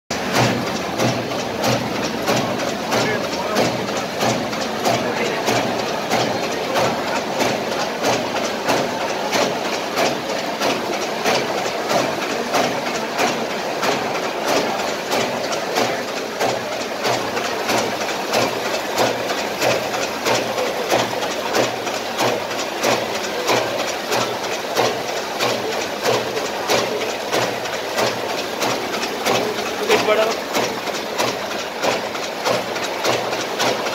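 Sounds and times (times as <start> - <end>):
machine clatter and clacks: 0.1 - 33.9
machine running hum: 0.1 - 33.9.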